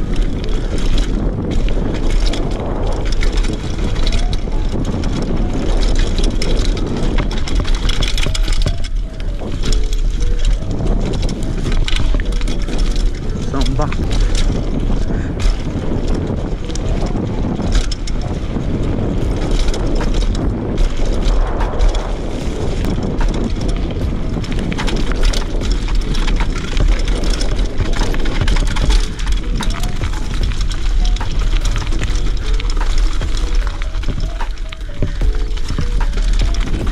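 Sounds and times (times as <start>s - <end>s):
bike clicks and rattles: 0.0s - 36.9s
tyres rolling over dirt and stones: 0.0s - 36.9s
wind buffeting microphone: 0.0s - 36.9s.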